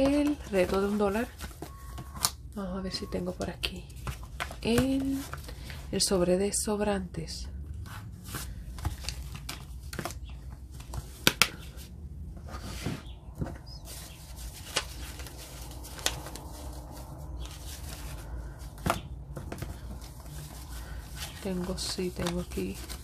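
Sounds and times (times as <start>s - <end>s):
papers rustling: 0.0s - 6.2s, 7.8s - 23.0s.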